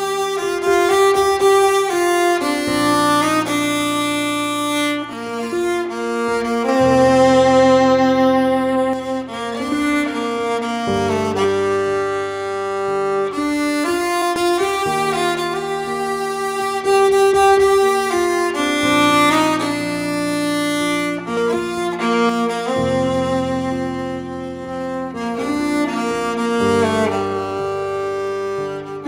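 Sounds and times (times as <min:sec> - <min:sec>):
slow bowed string music: 0:00.0 - 0:29.0.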